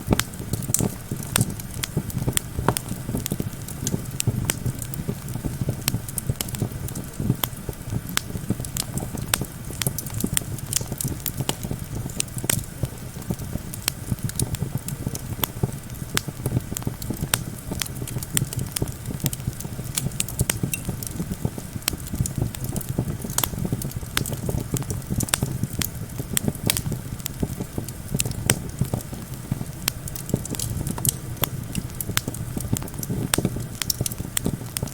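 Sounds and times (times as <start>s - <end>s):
campfire crackling and popping: 0.0s - 34.9s
low rumble of wind: 0.0s - 34.9s.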